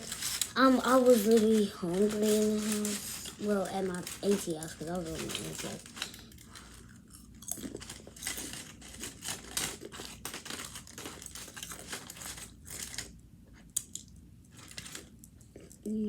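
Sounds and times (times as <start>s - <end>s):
child chewing crunchy food: 0.0s - 16.0s.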